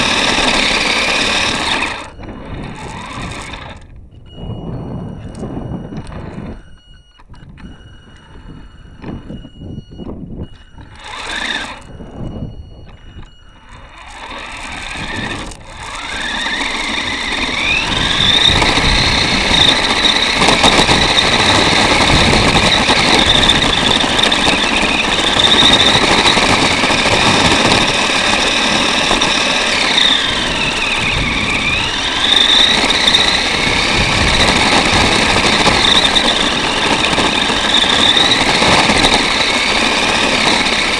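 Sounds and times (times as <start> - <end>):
electric motor and gears whining: 0.0 - 40.9.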